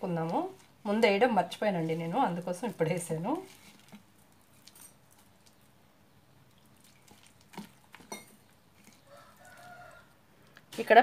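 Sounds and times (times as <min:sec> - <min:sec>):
batter being mixed by hand: 0:00.0 - 0:11.0.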